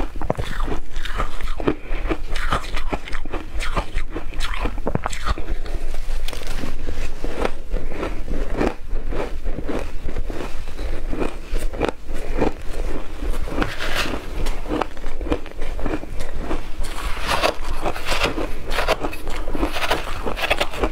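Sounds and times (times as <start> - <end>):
chewing ice crunches: 0.0 - 20.9.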